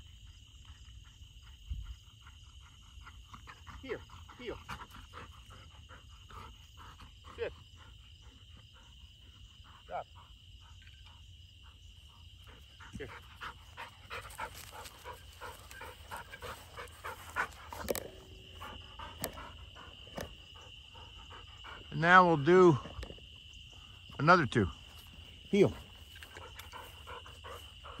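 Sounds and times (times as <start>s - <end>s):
high insect drone: 0.0s - 28.0s
dog panting: 0.2s - 22.9s, 25.7s - 28.0s.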